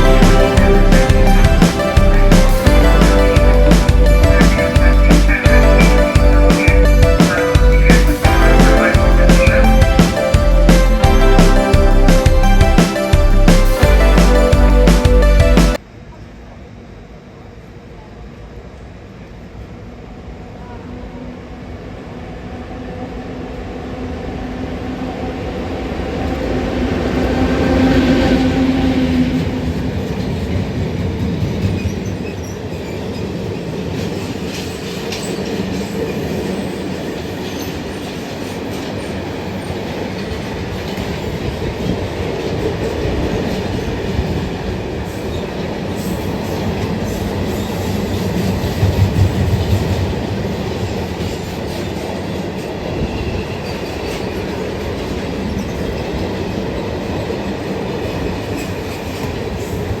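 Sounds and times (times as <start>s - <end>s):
freight train rolling past: 0.0s - 60.0s.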